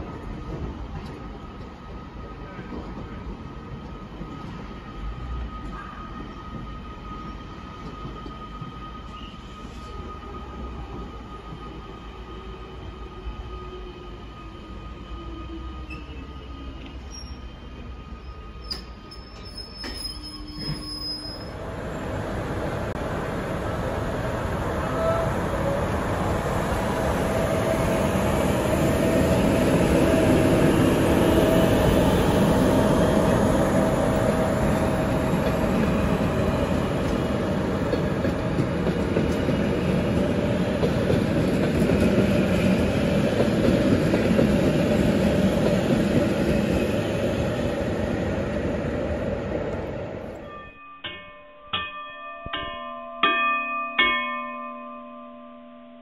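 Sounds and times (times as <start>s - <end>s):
train rumbling on rails: 0.0s - 50.8s.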